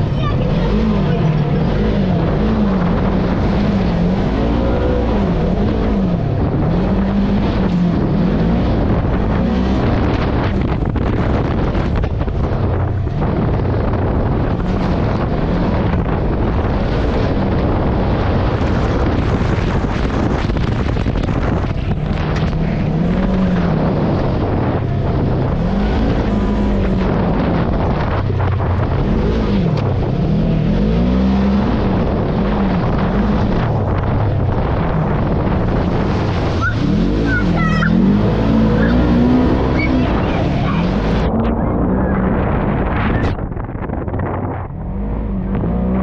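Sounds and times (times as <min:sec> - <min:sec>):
off-road vehicle engine revving: 0:00.0 - 0:46.0
wind buffeting microphone: 0:00.0 - 0:46.0.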